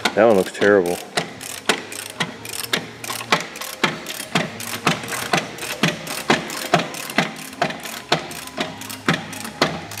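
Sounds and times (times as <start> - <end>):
ratchet wrench clicking: 0.0 - 10.0.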